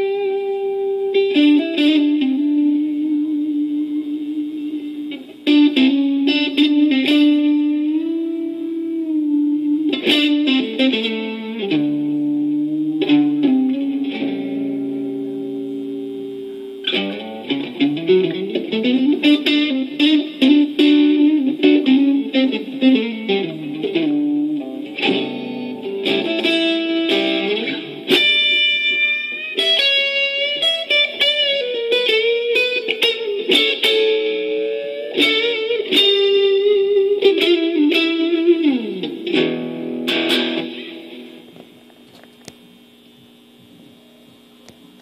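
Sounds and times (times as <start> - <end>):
solo electric guitar: 0.0 - 45.0.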